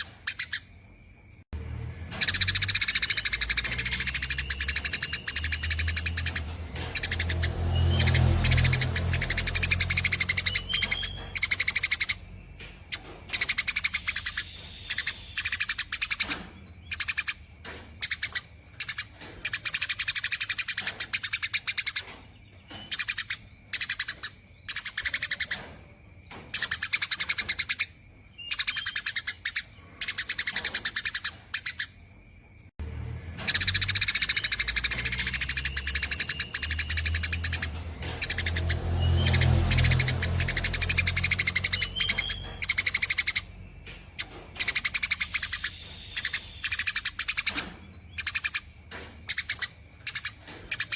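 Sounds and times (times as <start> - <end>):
sparrow chirping: 0.0 - 1.5, 2.1 - 32.7, 33.4 - 50.9.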